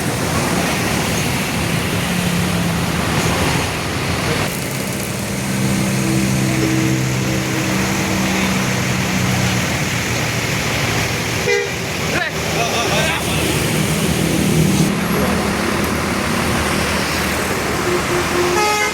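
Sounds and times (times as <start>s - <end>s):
large vehicle engine droning: 0.0s - 18.9s
road traffic noise: 0.0s - 18.9s.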